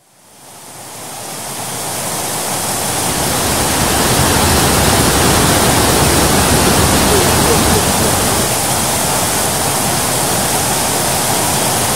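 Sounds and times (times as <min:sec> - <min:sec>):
water rushing over waterfall: 0:00.5 - 0:11.9.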